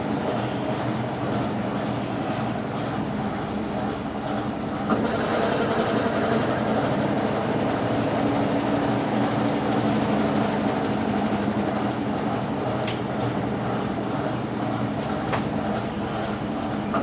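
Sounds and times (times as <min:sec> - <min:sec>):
agitator churning load: 0:00.0 - 0:17.0
washing machine motor humming: 0:01.0 - 0:17.0.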